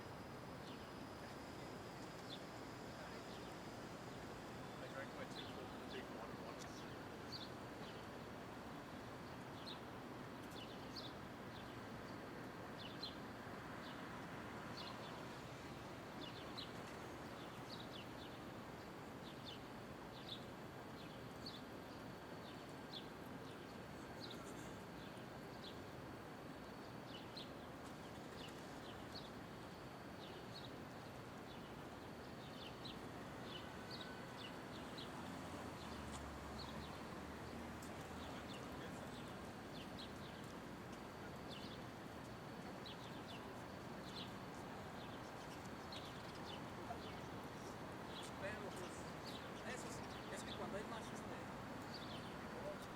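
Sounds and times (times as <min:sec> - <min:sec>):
street hum: 0:00.1 - 0:52.9.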